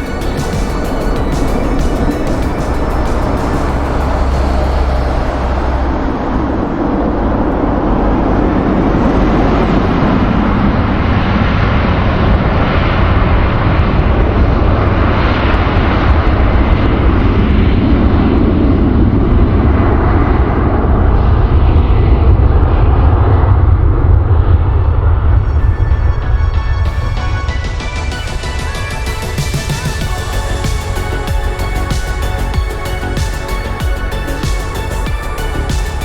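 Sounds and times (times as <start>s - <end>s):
jet airliner engines roaring: 0.0s - 36.0s.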